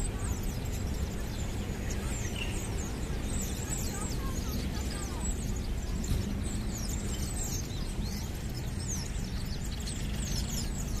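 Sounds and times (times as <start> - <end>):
birds chirping: 0.0 - 11.0
low rumble of town traffic: 0.0 - 11.0.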